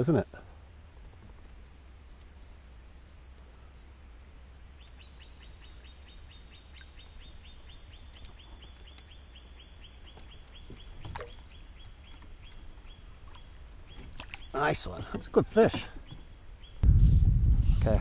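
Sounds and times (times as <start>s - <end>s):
cicada chorus buzzing: 0.0s - 18.0s.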